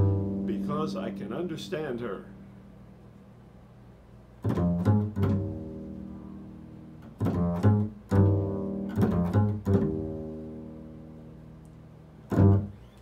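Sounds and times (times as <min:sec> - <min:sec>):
double bass plucked notes: 0:00.0 - 0:02.8, 0:04.4 - 0:12.8.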